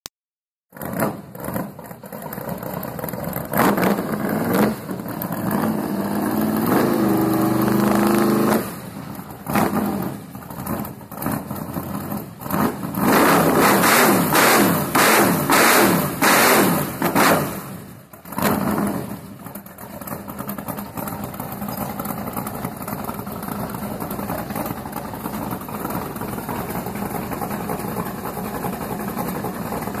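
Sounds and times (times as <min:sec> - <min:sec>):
engine revving and idling: 0:00.7 - 0:30.0.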